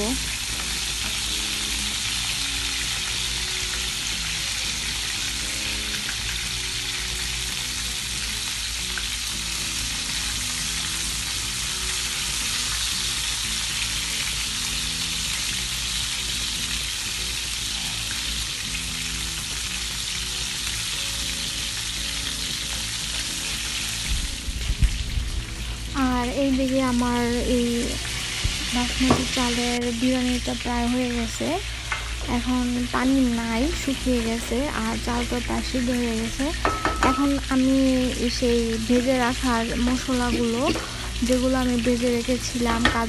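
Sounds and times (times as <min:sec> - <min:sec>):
chicken sizzling in hot oil: 0:00.0 - 0:43.0.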